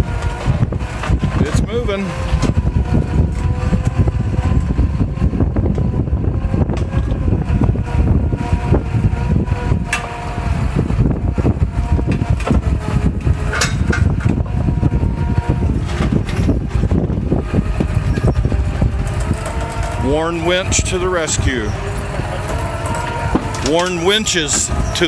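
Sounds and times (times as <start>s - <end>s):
electric winch motor whine: 0.0s - 25.0s.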